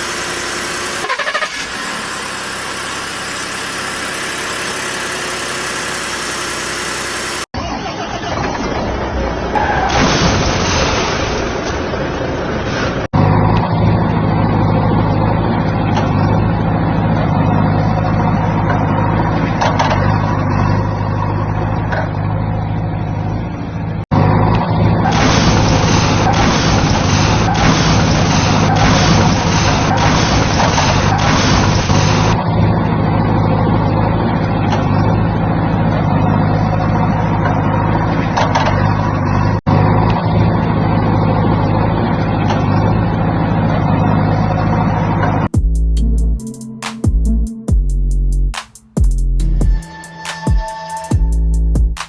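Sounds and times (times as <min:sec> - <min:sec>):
heavy vehicle engine running: 0:00.0 - 0:50.3, 0:51.1 - 0:52.0.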